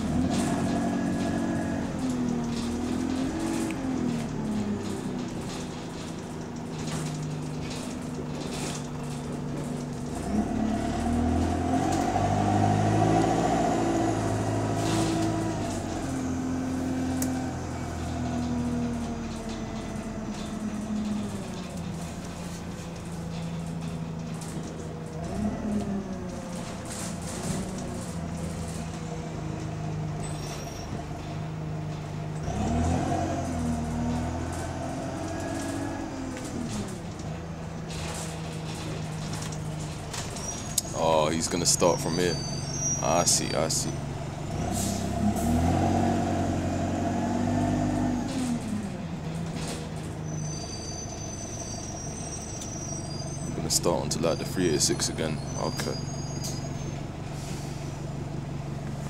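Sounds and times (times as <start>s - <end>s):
bus engine from inside cabin: 0.0s - 59.0s.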